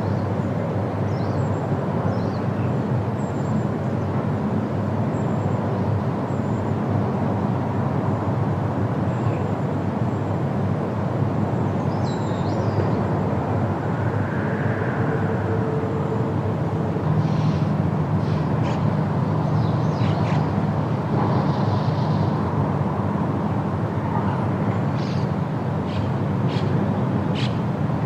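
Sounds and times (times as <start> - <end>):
wind through forest leaves: 0.0 - 28.0.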